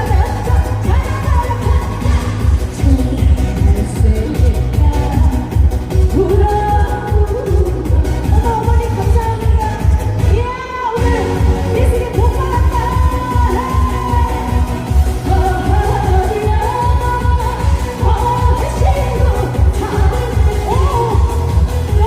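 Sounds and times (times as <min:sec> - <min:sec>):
music with heavy beat: 0:00.0 - 0:22.0
woman singing through pa: 0:00.0 - 0:22.0.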